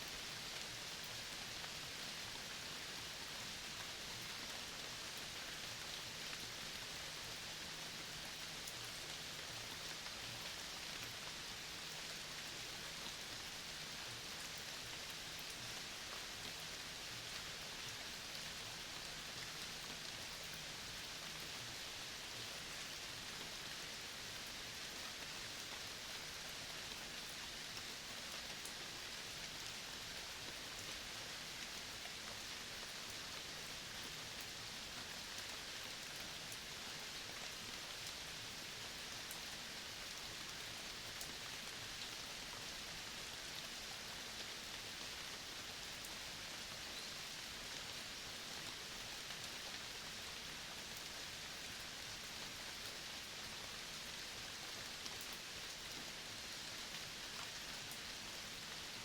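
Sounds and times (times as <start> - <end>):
steady outdoor hiss: 0.0 - 59.0.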